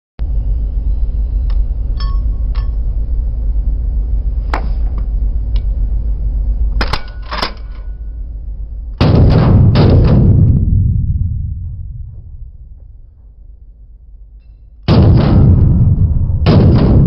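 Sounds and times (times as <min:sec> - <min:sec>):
steady low rumble: 0:00.2 - 0:17.0.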